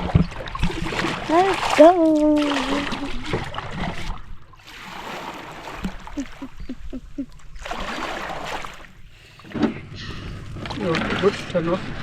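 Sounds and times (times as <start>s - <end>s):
paddle strokes splashing in water: 0.0s - 12.0s.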